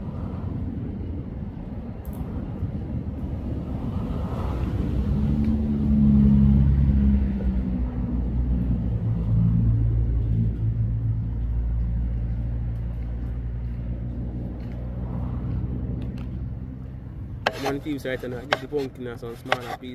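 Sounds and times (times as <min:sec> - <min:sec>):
engine running at low revs: 0:00.0 - 0:17.4.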